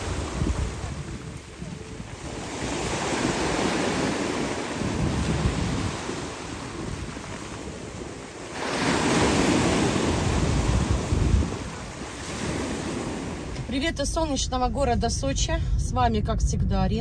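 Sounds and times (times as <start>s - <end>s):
sea surf breaking on shore: 0.0s - 13.7s
wind buffeting microphone: 0.0s - 17.0s.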